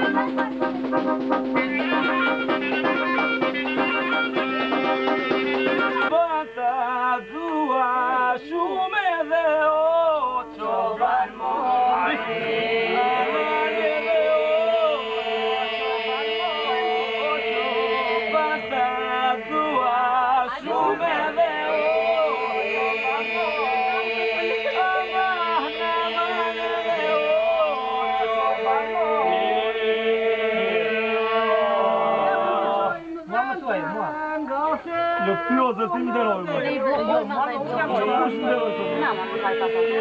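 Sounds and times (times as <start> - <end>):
men singing a drone: 1.6 - 33.1, 36.5 - 40.0.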